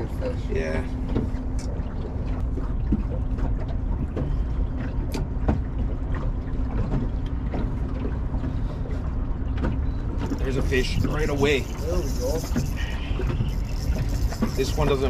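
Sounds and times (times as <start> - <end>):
water slapping against boat hull: 0.0 - 15.0
wind rumbling on microphone: 0.0 - 15.0.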